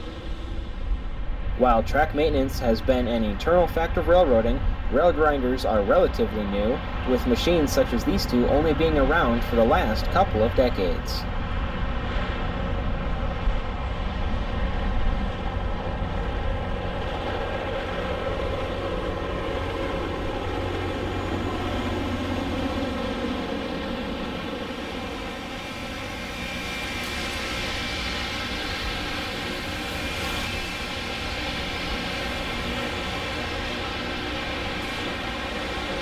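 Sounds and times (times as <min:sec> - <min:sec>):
heavy diesel drone: 0:00.0 - 0:36.0
rail grinding: 0:04.7 - 0:36.0.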